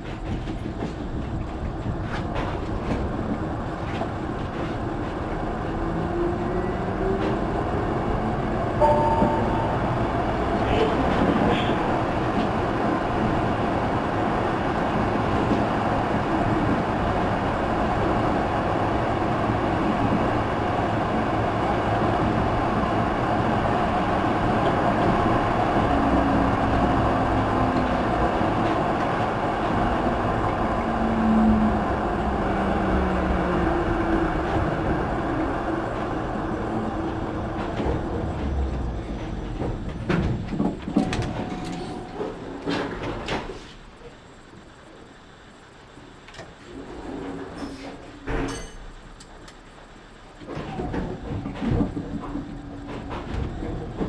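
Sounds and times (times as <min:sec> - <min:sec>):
tram motor tone: 0:00.0 - 0:54.0
tram rolling on track: 0:00.0 - 0:54.0.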